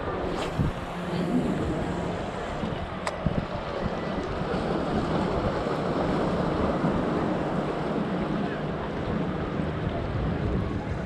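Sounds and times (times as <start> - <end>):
sea surf on rocky shore: 0.0 - 11.0
wind buffeting microphone: 0.0 - 11.0.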